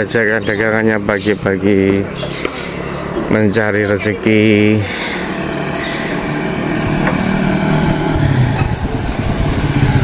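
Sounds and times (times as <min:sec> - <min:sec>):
motorcycle engine drone: 0:00.0 - 0:10.0
street riding noise: 0:00.0 - 0:10.0.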